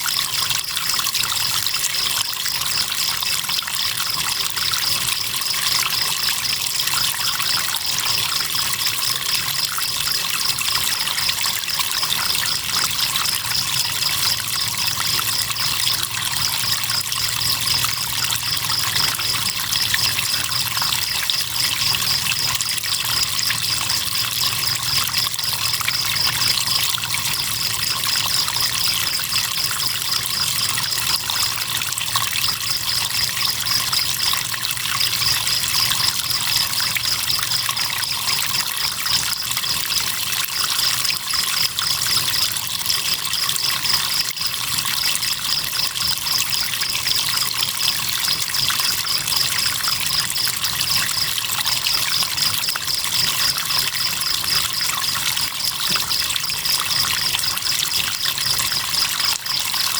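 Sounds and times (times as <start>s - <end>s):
river water trickling: 0.0s - 59.9s
crickets chirping: 0.1s - 59.9s.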